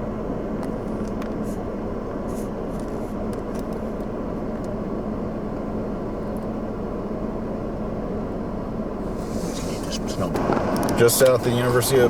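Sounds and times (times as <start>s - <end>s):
vehicle rumbling on the move: 0.0s - 12.0s.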